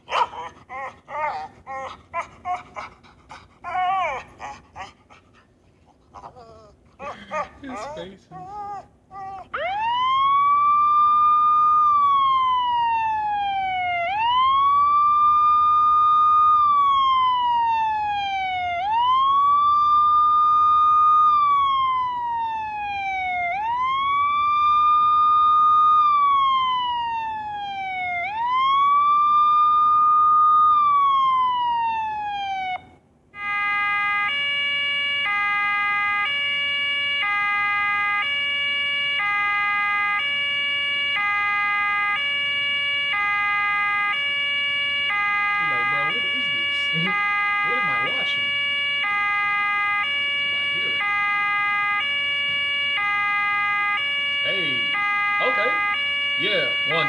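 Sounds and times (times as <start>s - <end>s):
siren wailing: 7.0s - 57.0s
two-tone siren: 9.6s - 57.0s.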